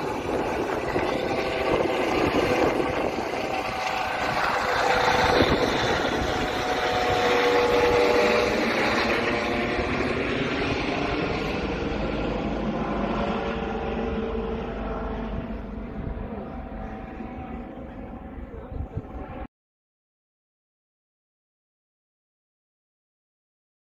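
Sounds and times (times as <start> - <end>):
helicopter rotor and turbine: 0.0 - 19.5.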